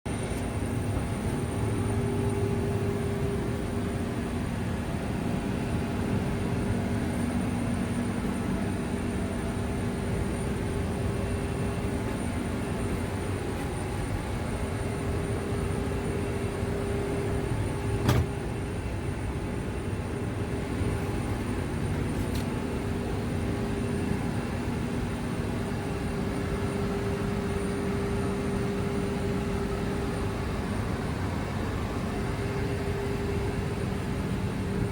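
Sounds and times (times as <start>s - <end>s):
airliner cabin drone: 0.1s - 34.9s.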